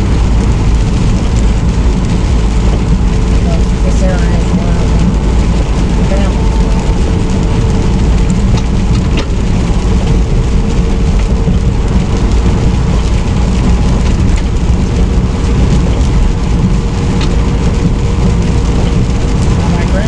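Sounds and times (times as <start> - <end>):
rain hissing: 0.0 - 20.0
truck engine and road drone: 0.0 - 20.0.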